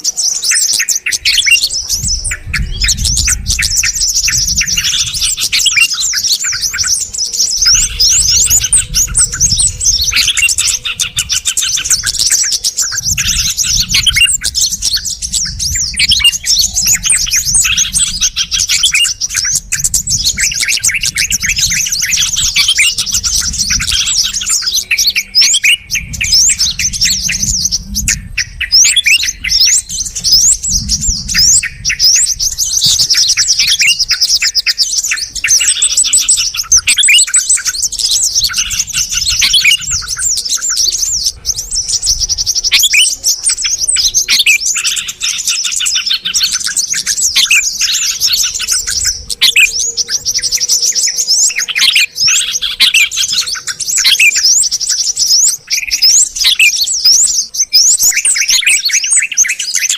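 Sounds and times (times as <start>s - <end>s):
bulbuls chirping and whistling: 0.0s - 59.9s.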